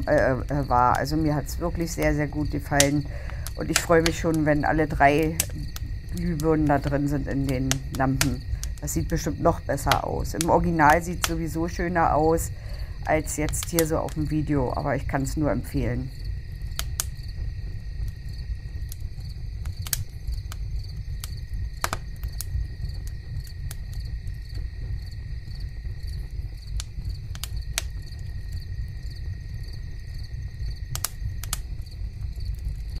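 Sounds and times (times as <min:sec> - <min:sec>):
insect chirping faintly: 0:00.0 - 0:33.0.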